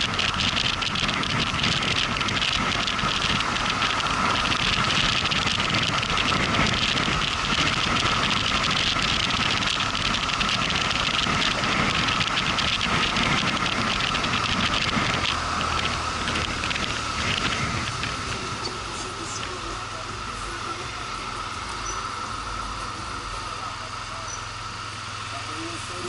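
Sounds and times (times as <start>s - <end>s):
wind rush on microphone: 0.0s - 23.1s
motorcycle engine: 0.0s - 26.0s.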